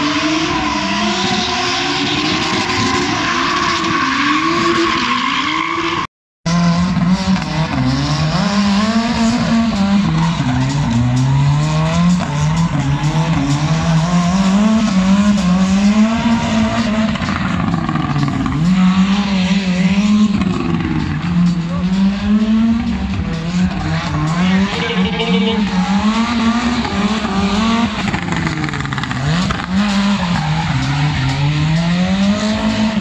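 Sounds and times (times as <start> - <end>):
tyres squealing and skidding: 0.0 - 6.1, 8.6 - 33.0
car engines revving: 0.0 - 33.0.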